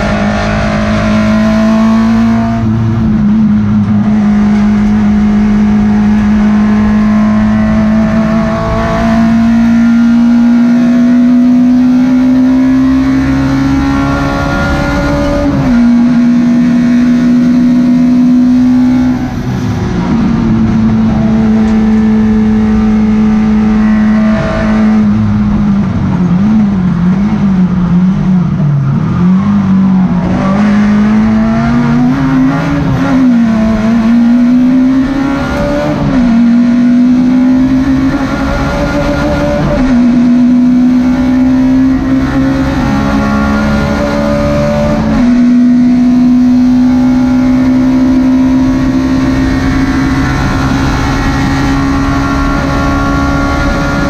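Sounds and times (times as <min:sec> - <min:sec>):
race car engine at high revs: 0:00.0 - 0:54.0.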